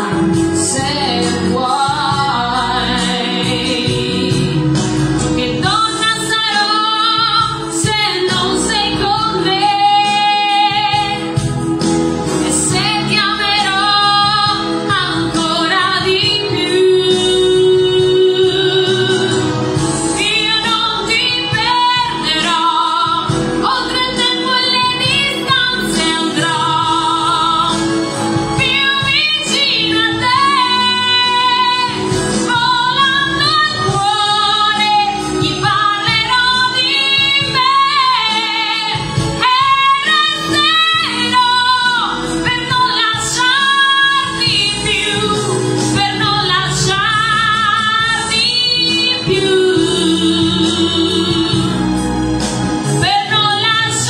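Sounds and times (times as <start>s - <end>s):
recorded backing track: 0.0s - 54.0s
woman singing a pop ballad: 0.0s - 54.0s.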